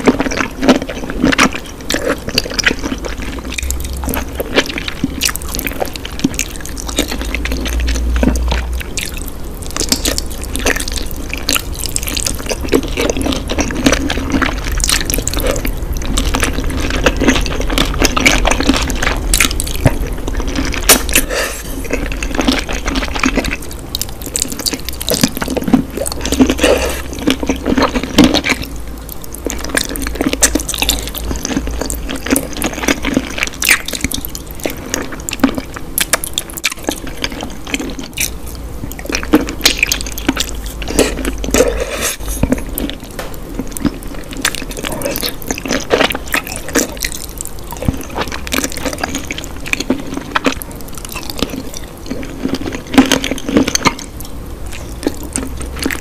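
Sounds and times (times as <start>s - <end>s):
steady low hum: 0.0s - 56.0s
wet chewing and sucking: 0.0s - 56.0s.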